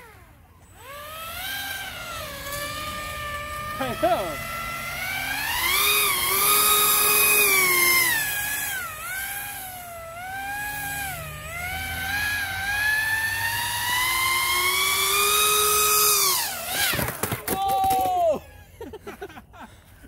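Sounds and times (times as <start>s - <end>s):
electric motor and propeller whine: 0.0s - 17.4s.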